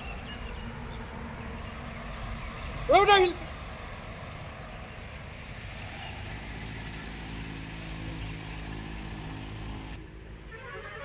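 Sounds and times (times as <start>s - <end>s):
outdoor background noise: 0.0s - 11.0s
steady engine hum: 0.0s - 11.0s.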